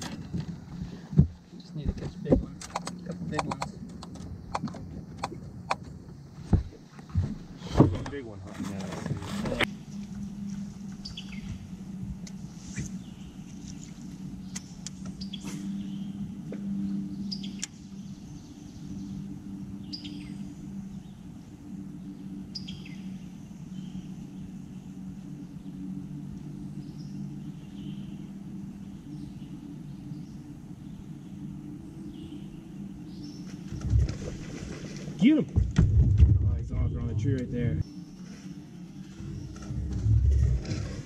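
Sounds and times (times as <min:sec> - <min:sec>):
electric trolling motor hum: 0:00.0 - 0:35.2, 0:36.9 - 0:41.0
birds chirping: 0:00.0 - 0:35.7, 0:36.5 - 0:41.0.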